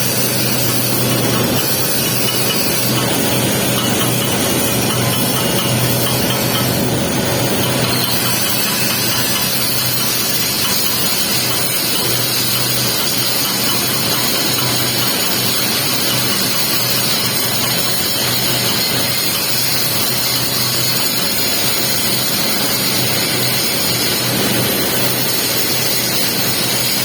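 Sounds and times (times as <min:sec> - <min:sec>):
welding arc crackling and hissing: 0:00.0 - 0:27.0.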